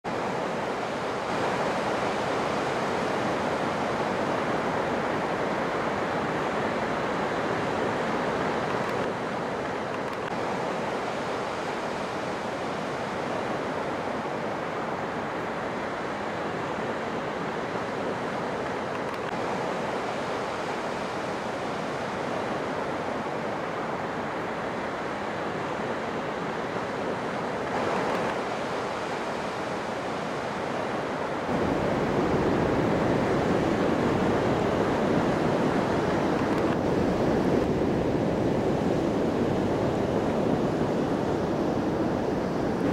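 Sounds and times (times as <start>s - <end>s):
ocean waves breaking on beach: 0.0s - 42.9s.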